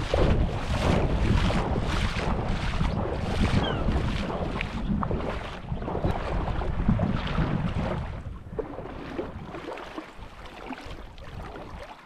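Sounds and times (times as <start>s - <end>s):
small waves lapping: 0.0s - 12.0s
wind rumbling on microphone: 0.0s - 12.0s.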